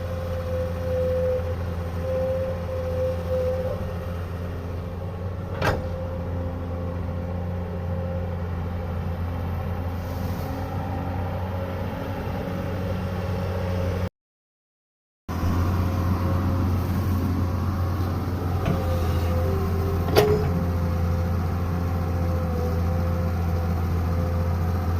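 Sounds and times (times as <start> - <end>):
excavator diesel engine droning: 0.0 - 14.1, 15.3 - 24.9.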